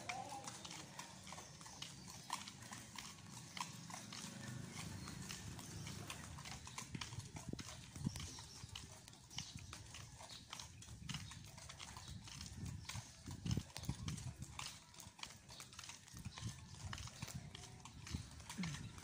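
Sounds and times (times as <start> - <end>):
footsteps on paved path: 0.0 - 19.0.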